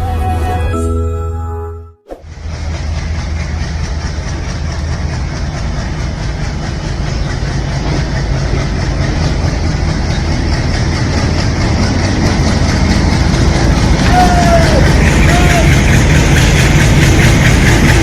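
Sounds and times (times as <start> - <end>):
locomotive diesel engine throbbing: 0.0 - 18.0.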